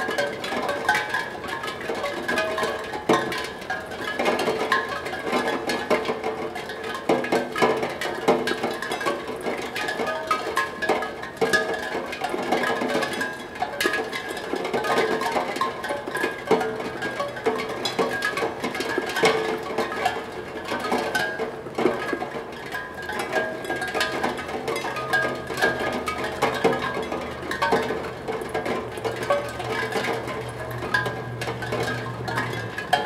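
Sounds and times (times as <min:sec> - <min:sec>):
raindrops ringing a steel tongue drum: 0:00.0 - 0:33.0.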